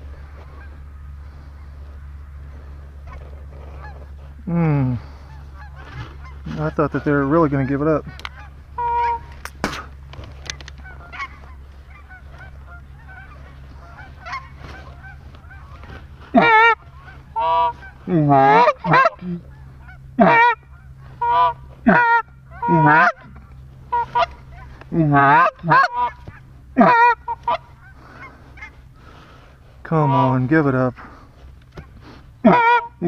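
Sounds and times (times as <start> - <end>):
goose calls honking and clucking: 0.1 - 33.0.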